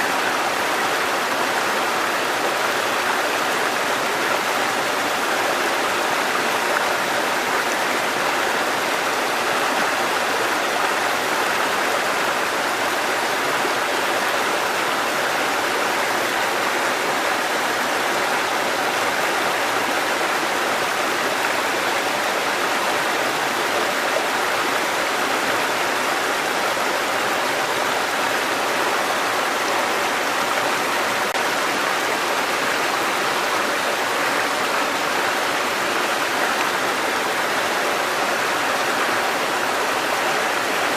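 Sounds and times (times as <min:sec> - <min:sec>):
stream water cascading over rocks: 0:00.0 - 0:40.9.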